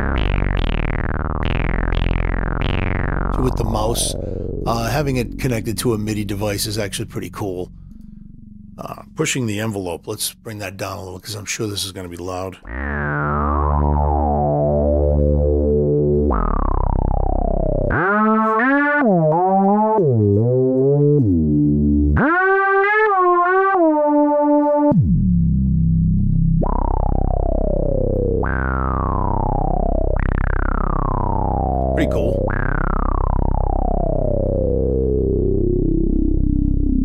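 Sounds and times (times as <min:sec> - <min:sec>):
deep synthesizer bass notes: 0:00.0 - 0:11.2, 0:12.6 - 0:37.0.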